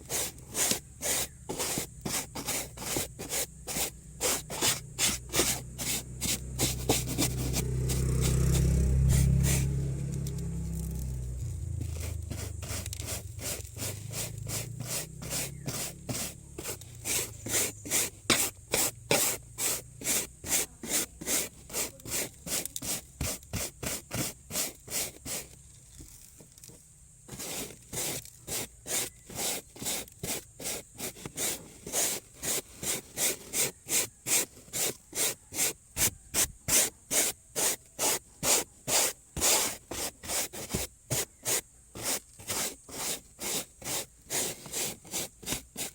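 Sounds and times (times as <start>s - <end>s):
brush scrubbing: 0.0s - 9.9s, 11.4s - 25.6s, 27.3s - 45.9s.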